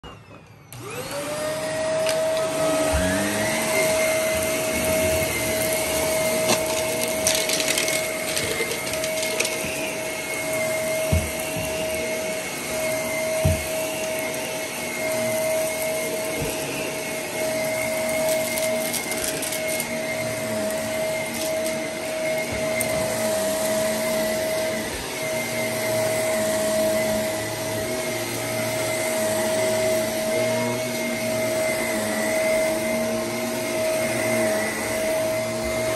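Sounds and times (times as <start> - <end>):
upright vacuum cleaner running: 0.0 - 35.9.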